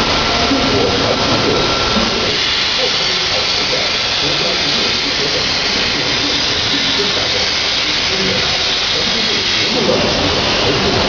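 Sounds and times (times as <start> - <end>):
machine tool hissing: 0.0 - 11.0
muffled voices: 0.0 - 11.0.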